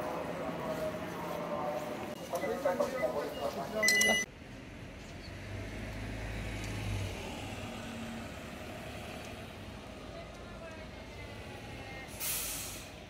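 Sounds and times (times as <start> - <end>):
bus driving past: 0.0 - 13.0
street hum: 0.0 - 13.0.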